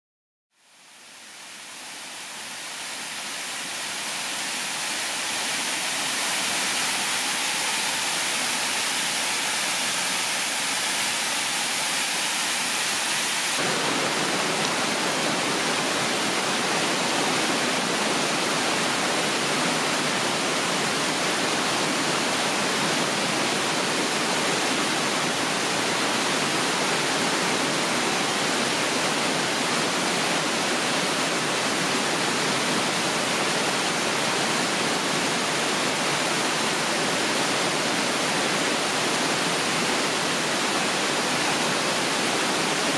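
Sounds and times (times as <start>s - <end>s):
water rushing over spillway: 0.7s - 42.9s.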